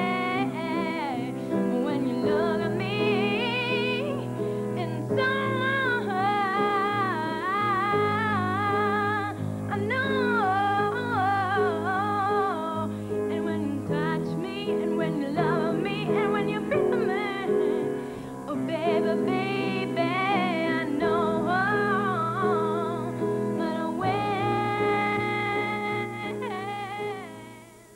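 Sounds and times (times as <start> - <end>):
woman singing with vibrato: 0.0 - 27.9.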